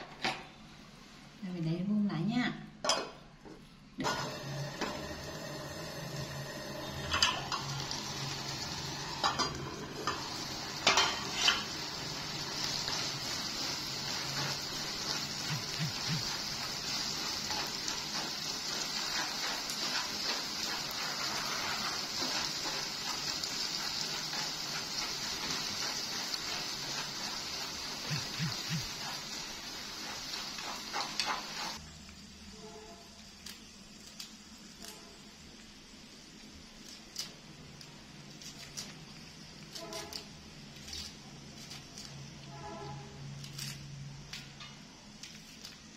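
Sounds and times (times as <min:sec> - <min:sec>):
corn sizzling in a frying pan: 0:04.0 - 0:45.9.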